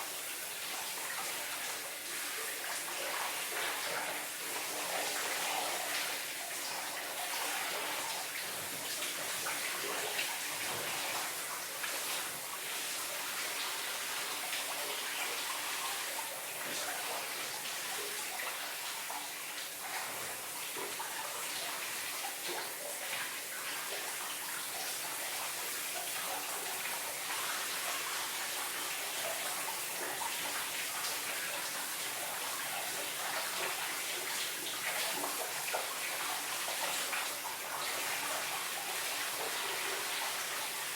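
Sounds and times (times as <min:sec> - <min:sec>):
shower water splashing: 0:00.0 - 0:40.9.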